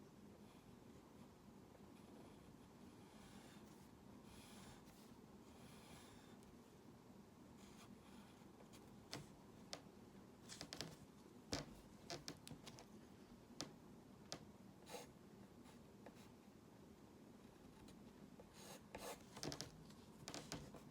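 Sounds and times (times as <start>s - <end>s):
faint room hiss: 0.0s - 20.9s.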